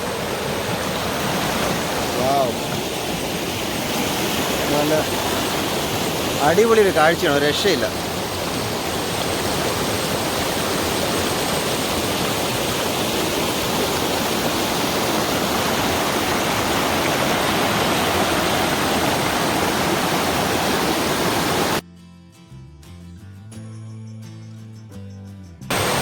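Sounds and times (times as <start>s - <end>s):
waterfall rushing: 0.0s - 21.8s, 25.7s - 26.0s.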